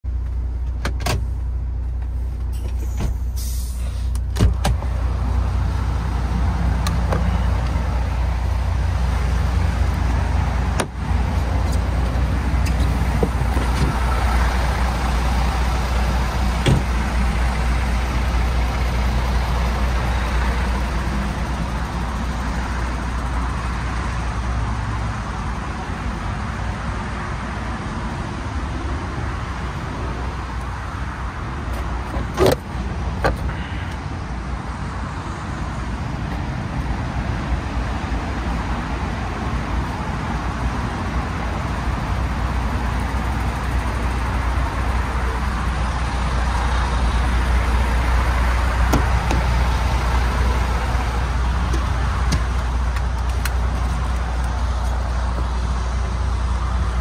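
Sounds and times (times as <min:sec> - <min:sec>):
road noise: 0:00.0 - 0:57.0
truck diesel engine drone: 0:00.0 - 0:57.0.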